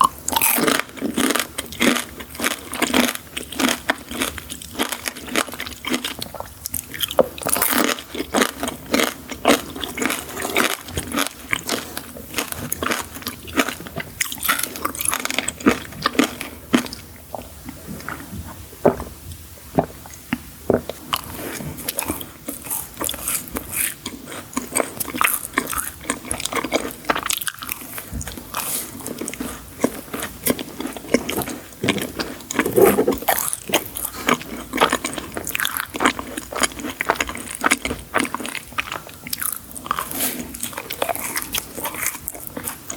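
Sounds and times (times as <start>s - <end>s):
person chewing sweets: 0.0s - 42.9s.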